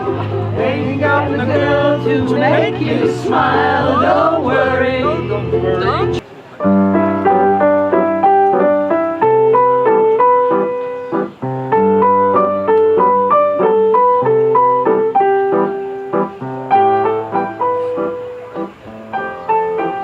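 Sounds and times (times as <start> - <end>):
piano chords over low bass: 0.0 - 20.0.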